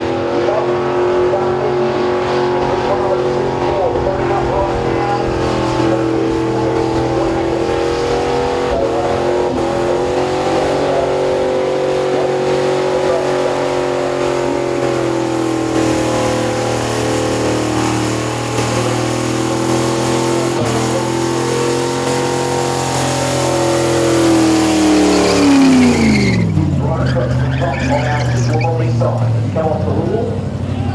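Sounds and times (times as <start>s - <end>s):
car engine at high revs: 0.0s - 30.9s
spinning tyres hissing: 0.0s - 30.9s.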